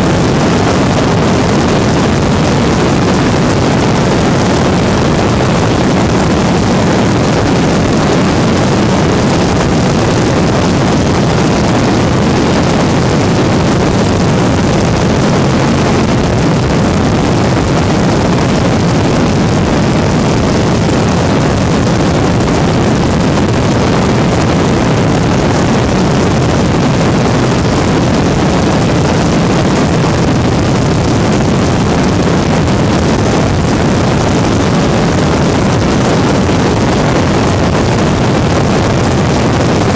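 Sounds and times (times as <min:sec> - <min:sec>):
aircraft engine and propeller drone: 0:00.0 - 0:39.9
wind rush: 0:00.0 - 0:39.9.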